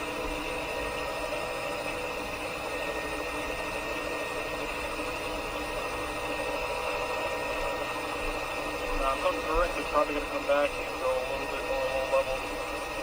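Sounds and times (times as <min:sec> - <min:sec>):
helicopter cabin hum and hiss: 0:00.0 - 0:13.0
steady whining tones: 0:00.0 - 0:13.0.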